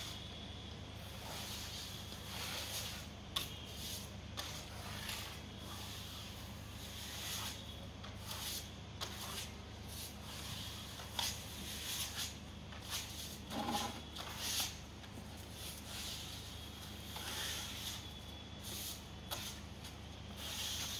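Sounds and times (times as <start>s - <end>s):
trowels scraping wet screed: 1.0s - 20.9s.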